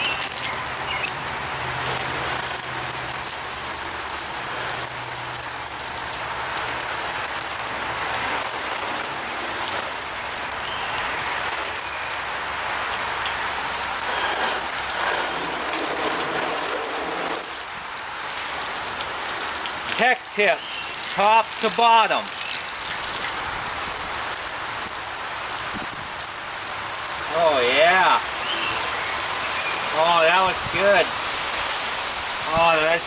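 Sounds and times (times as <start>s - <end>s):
hose water spraying on metal: 0.0s - 33.0s.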